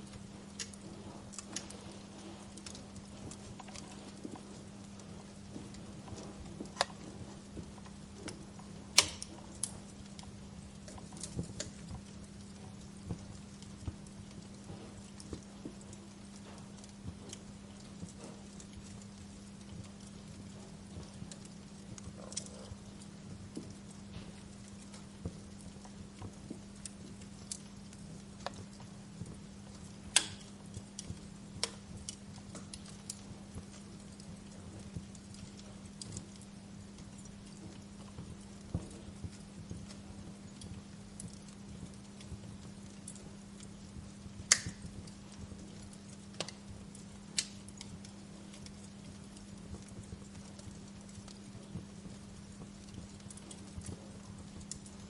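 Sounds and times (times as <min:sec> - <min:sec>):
steady low hum: 0:00.0 - 0:55.0
wood fire crackling: 0:00.0 - 0:55.0.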